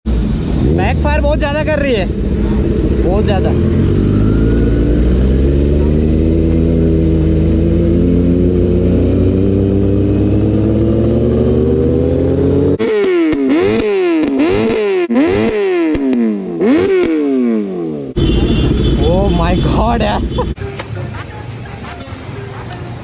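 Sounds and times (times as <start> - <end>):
motorcycle engine revving: 0.1 - 20.6.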